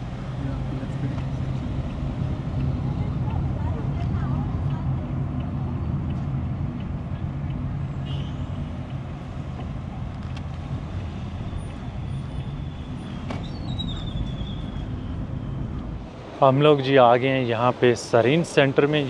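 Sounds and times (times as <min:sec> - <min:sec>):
car engine and road drone: 0:00.0 - 0:16.5.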